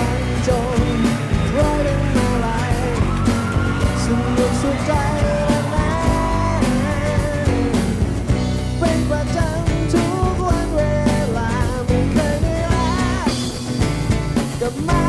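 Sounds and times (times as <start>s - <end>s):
heavy bass: 0.0s - 15.0s
rock music: 0.0s - 15.0s
steady drum beat: 0.0s - 15.0s.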